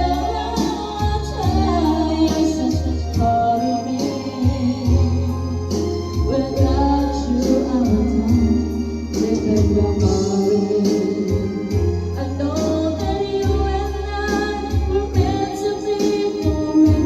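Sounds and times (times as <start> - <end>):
backing music with steady beat: 0.0 - 17.0
person singing: 0.0 - 17.0.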